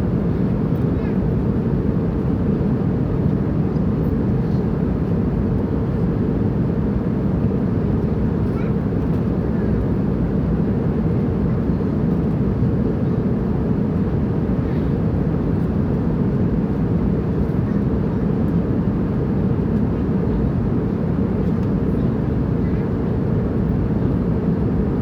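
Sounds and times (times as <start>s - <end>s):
airplane engine rumble: 0.0s - 25.0s.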